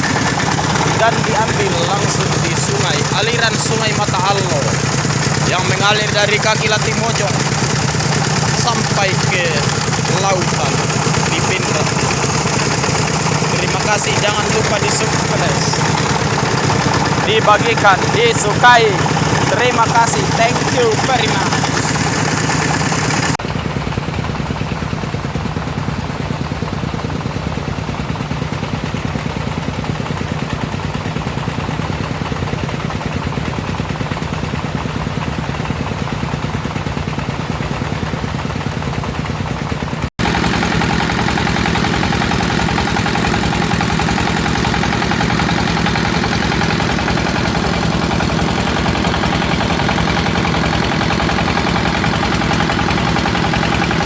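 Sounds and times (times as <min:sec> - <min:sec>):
water pump engine droning: 0:00.0 - 0:54.0.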